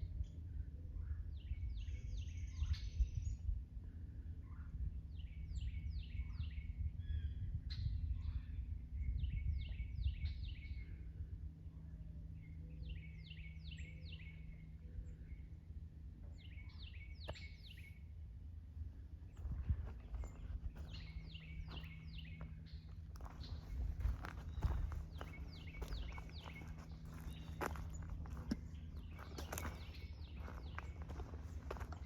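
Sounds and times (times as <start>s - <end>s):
low wind rumble: 0.0s - 32.0s
songbird singing: 0.1s - 18.2s, 19.2s - 32.0s.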